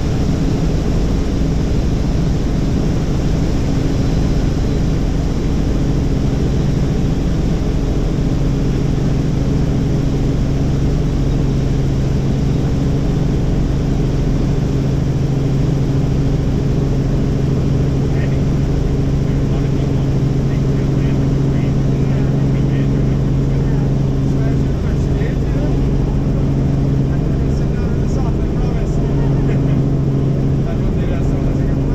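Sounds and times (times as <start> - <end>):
helicopter droning: 0.0 - 31.9.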